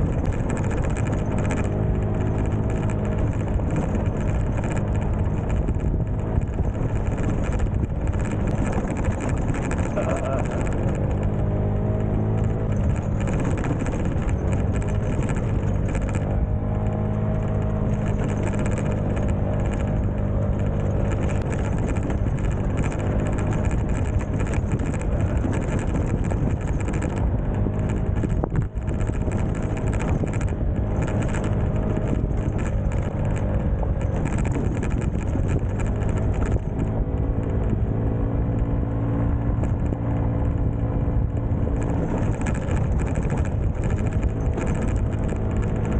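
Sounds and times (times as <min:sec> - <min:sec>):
rattles over rough ground: 0:00.0 - 0:45.9
scooter engine running: 0:00.0 - 0:45.9.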